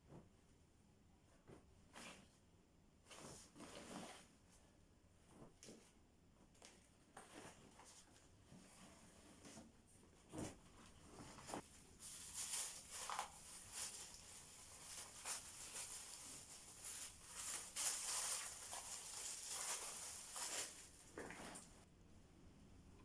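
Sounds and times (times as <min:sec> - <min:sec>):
rustling and handling noises: 0:00.0 - 0:21.9.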